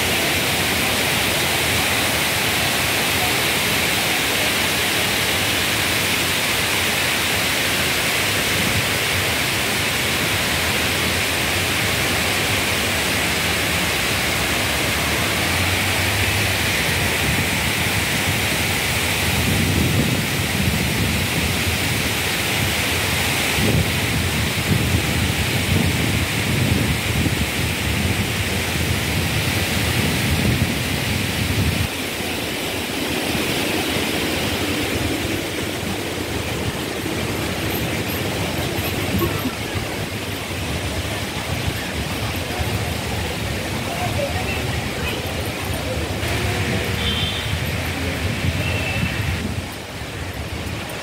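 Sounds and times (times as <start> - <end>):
rain on wet paving: 0.0 - 51.0.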